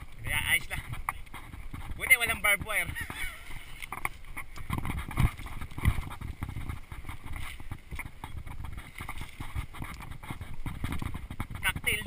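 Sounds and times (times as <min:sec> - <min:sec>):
mountain bike rattling and knocking: 0:00.4 - 0:12.0.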